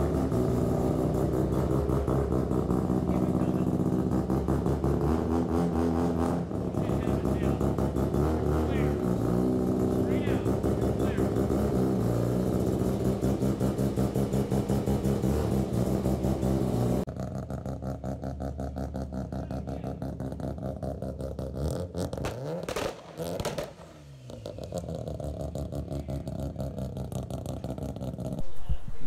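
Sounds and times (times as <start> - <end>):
rotary engine running: 0.0 - 29.0.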